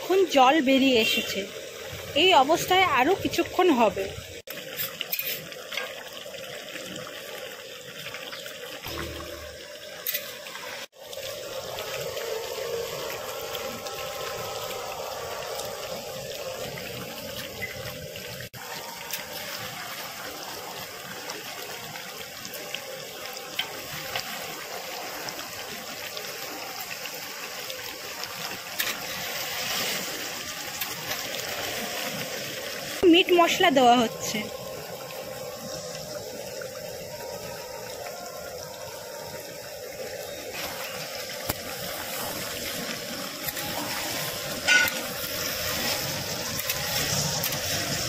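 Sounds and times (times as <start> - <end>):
chicken sizzling in a pan: 0.1 - 48.0.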